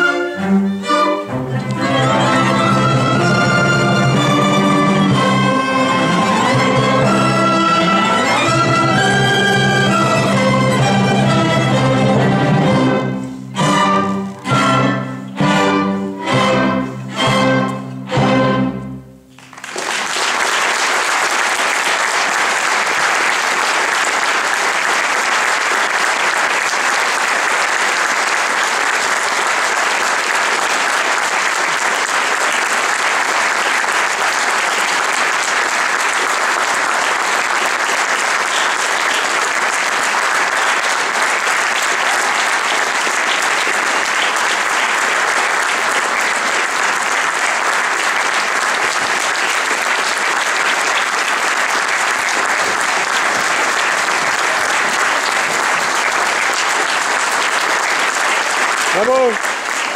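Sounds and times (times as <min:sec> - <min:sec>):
audience applause: 0:01.2 - 0:13.0, 0:19.3 - 0:59.9.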